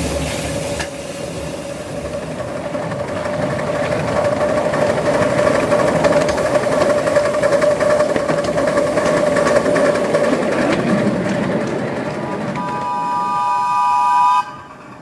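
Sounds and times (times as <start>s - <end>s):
model locomotive running on rails: 0.0s - 15.0s.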